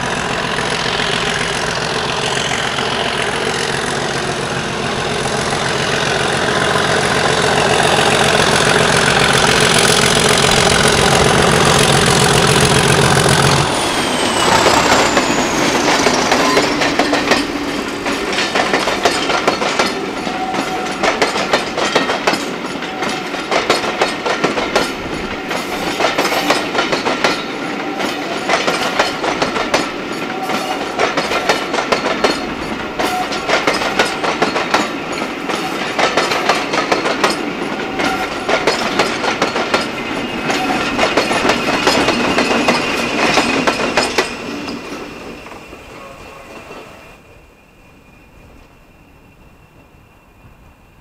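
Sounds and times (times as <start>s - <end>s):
train wheels clicking over rail joints: 0.0s - 47.1s.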